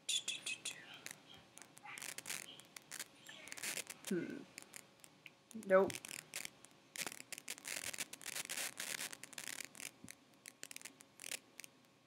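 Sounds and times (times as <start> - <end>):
scratching rubbing and clicking: 0.5 - 12.0.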